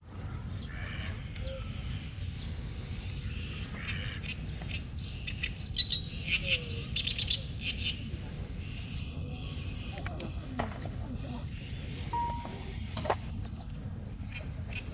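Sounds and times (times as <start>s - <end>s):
birds chirping: 0.1s - 7.9s, 8.6s - 14.9s.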